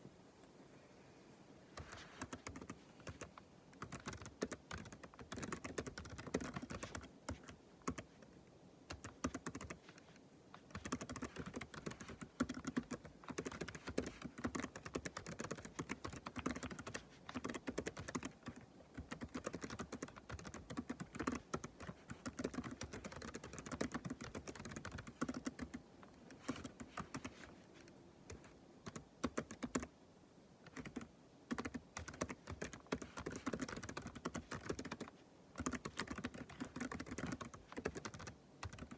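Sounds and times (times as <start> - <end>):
typing on keyboard: 1.8 - 8.1, 8.9 - 27.4, 28.3 - 29.9, 30.6 - 38.9.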